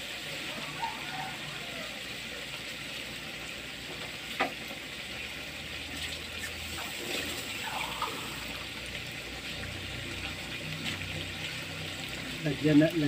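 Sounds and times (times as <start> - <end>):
meat sizzling in sauce: 0.0 - 13.0.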